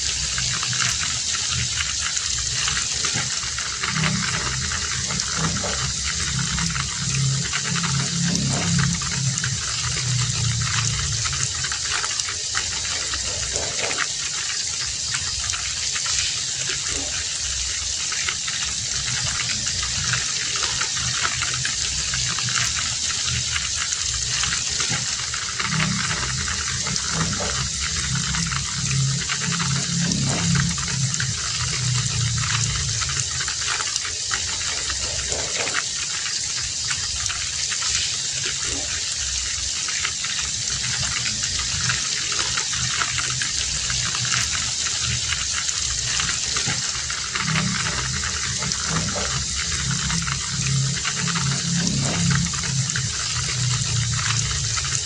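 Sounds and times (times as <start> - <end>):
low rumble: 0.0 - 14.0, 18.6 - 35.8, 40.7 - 55.0
heavy rain falling: 0.0 - 55.0.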